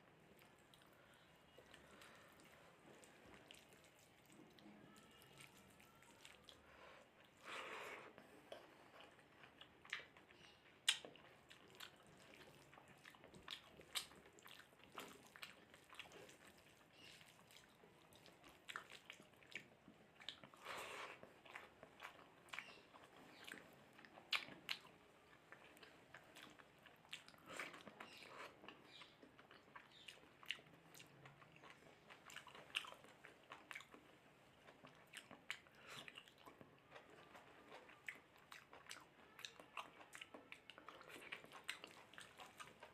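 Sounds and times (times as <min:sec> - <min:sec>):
chewing and wet mouth sounds: 0:00.0 - 0:42.9.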